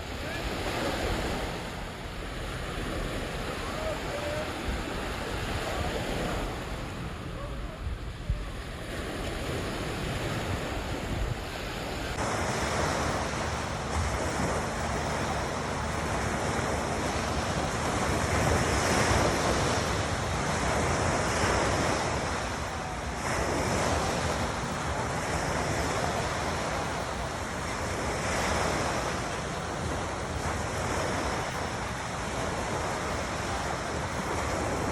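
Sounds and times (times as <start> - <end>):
waves washing onto shore: 0.0 - 34.9.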